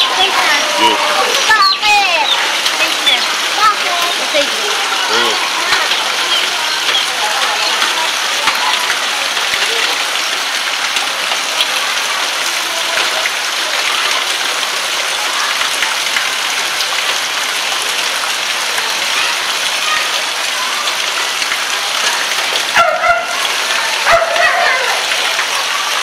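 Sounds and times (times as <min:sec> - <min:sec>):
rain on concrete: 0:00.0 - 0:26.0.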